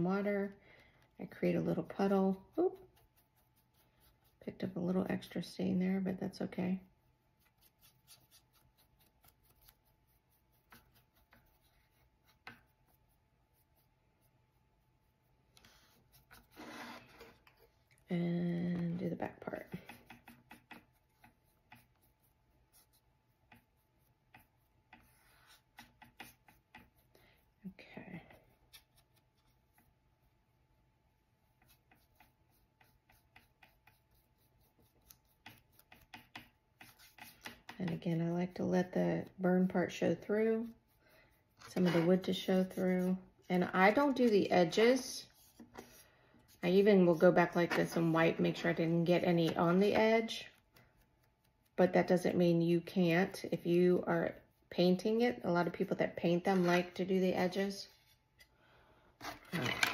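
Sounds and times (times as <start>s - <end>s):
paintbrush strokes on wood: 0.0s - 58.3s.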